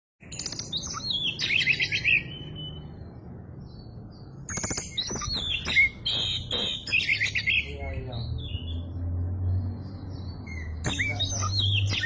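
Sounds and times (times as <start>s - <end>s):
songbird chirping and whistling: 0.3s - 12.0s.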